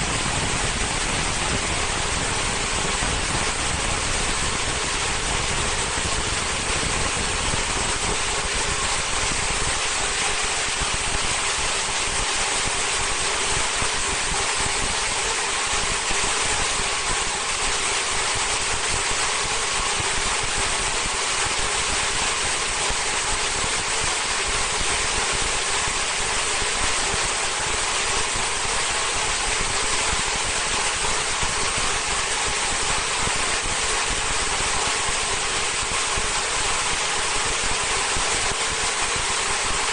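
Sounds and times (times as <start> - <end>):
film slitting machine running: 0.0 - 39.9.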